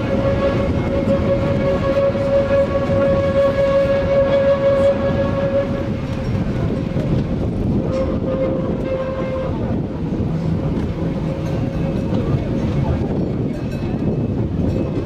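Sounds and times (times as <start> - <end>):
train wheels and gearing rumble: 0.0 - 15.0.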